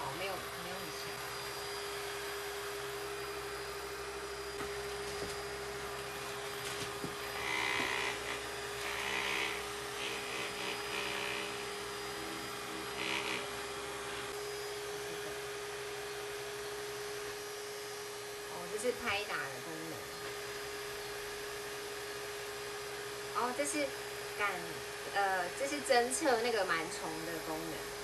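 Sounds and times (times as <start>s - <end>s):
handheld vacuum motor hum: 0.0s - 28.0s.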